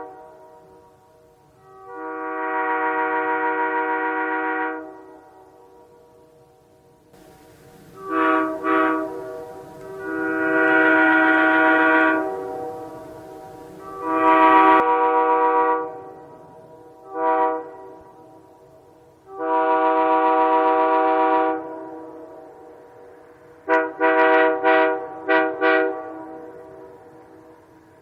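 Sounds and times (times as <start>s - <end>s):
locomotive air horn blasts: 0.0s - 6.3s, 7.2s - 22.8s, 23.6s - 27.8s.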